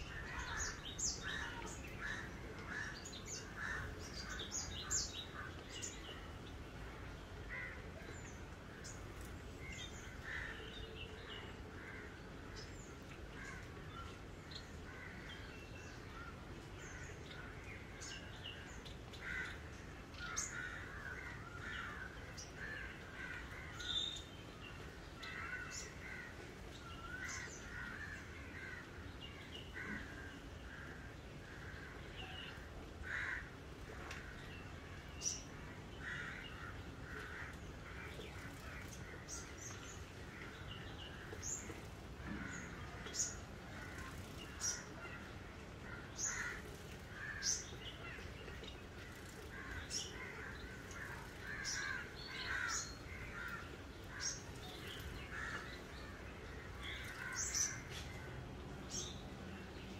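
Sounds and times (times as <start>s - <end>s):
birds calling and chirping: 0.0s - 59.9s.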